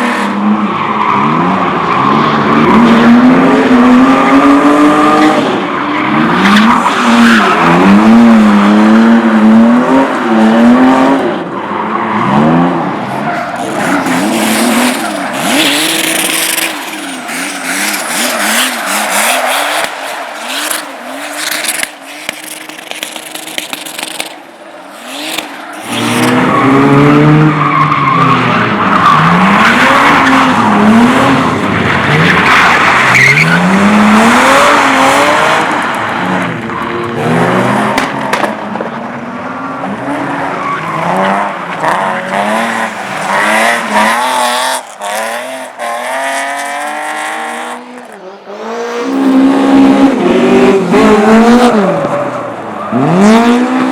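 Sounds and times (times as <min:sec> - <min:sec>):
race car engines revving: 0:00.0 - 0:53.9.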